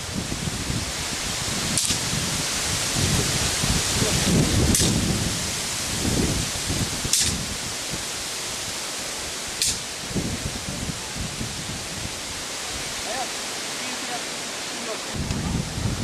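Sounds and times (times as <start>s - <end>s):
wind buffeting microphone: 0.0s - 13.2s, 15.1s - 16.0s
hissing bursts: 0.0s - 16.0s.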